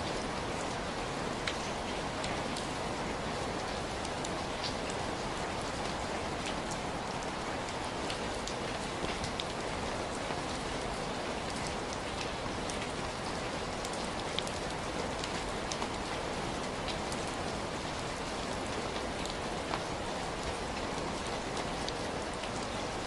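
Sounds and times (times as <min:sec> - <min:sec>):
raindrops ticking on a surface: 0:00.0 - 0:23.0.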